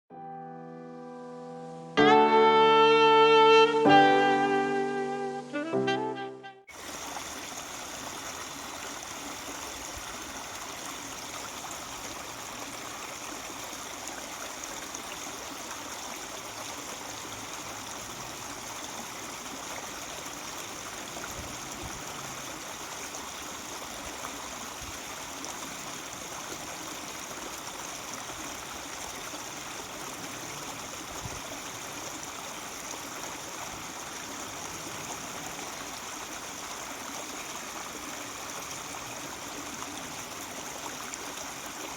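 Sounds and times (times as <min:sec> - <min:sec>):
mountain stream babbling: 0:02.0 - 0:41.9.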